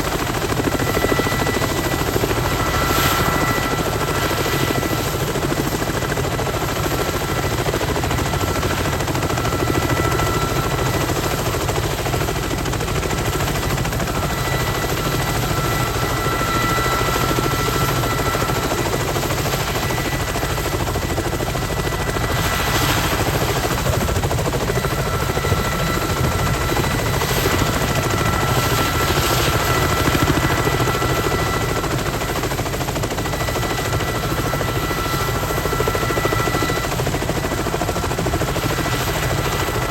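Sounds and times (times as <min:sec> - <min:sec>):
helicopter rotor chop: 0:00.0 - 0:39.9
high turbine whine: 0:00.0 - 0:39.9.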